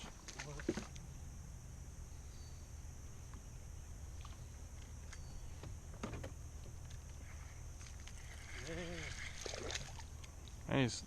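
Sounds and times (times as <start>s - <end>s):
low hum: 0.0s - 10.7s
high insect drone: 0.0s - 11.0s.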